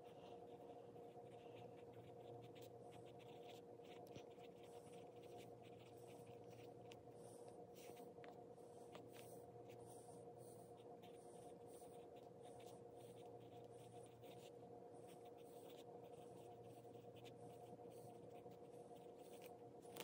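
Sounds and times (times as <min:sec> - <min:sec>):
low steady hum: 0:00.0 - 0:20.0
pencil scratching on paper: 0:00.0 - 0:20.0.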